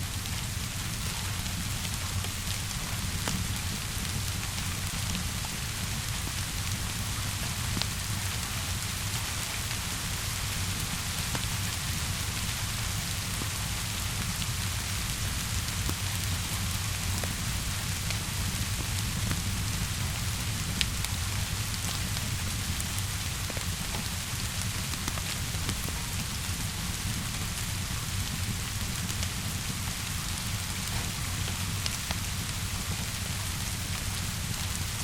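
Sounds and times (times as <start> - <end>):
steady rainfall: 0.0 - 35.0
wood fire crackles and pops: 0.1 - 35.0.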